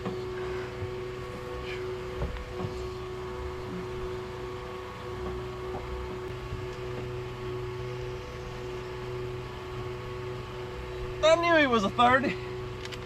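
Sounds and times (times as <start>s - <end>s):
small boat motor humming: 0.0s - 13.0s.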